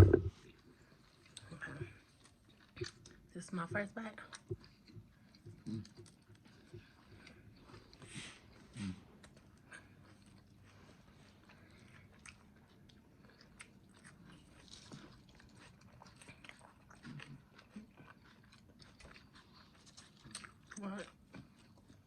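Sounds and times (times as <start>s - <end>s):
person chewing sandwich: 0.0s - 3.3s, 4.2s - 22.0s.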